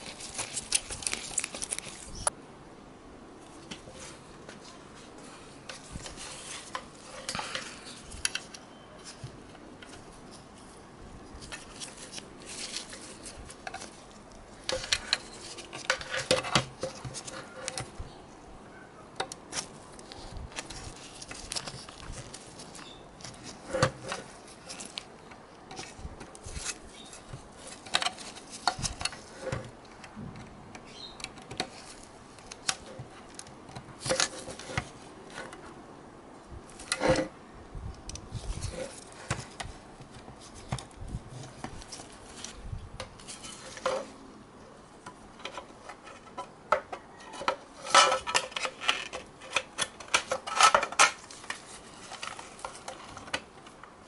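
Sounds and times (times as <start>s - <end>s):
rustling: 0.0s - 2.4s, 3.4s - 18.4s, 19.2s - 35.8s, 38.1s - 54.0s.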